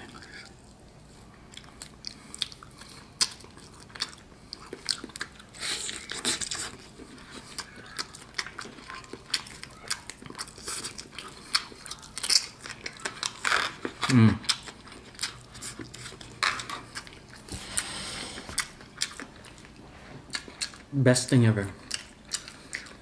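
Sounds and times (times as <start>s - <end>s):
chewing with mouth clicks: 0.0s - 21.0s, 21.6s - 23.0s.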